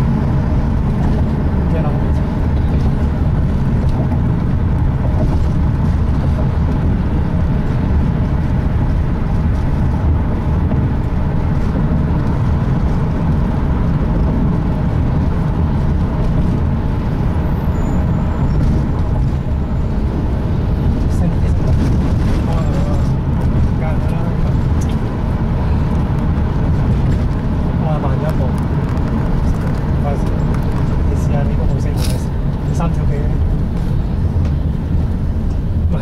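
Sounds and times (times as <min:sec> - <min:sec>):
low rumble of road vehicle: 0:00.0 - 0:36.0.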